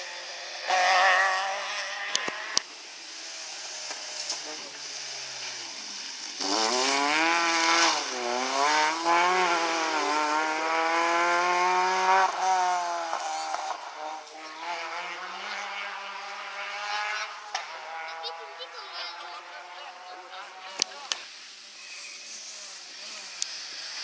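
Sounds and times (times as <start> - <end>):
rally car engine revving past: 0.0 - 21.2.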